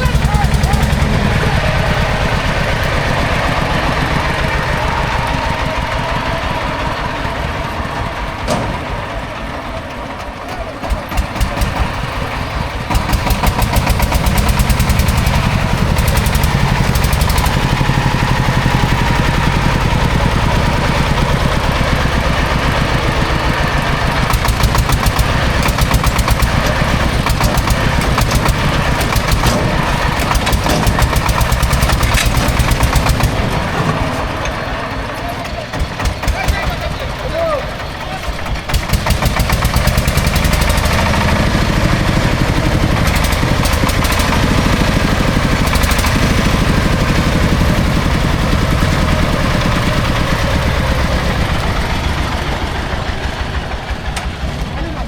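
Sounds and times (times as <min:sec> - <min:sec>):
heavy vehicle engine knocking: 0:00.0 - 0:55.0.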